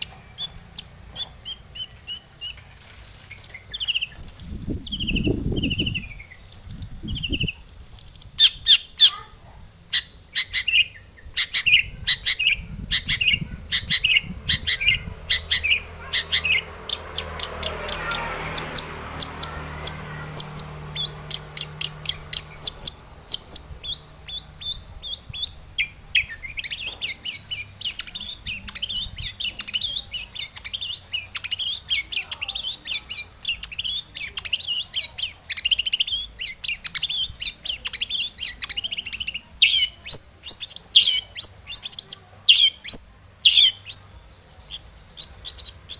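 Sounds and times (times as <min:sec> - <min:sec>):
bird chattering song: 0:00.0 - 0:45.9.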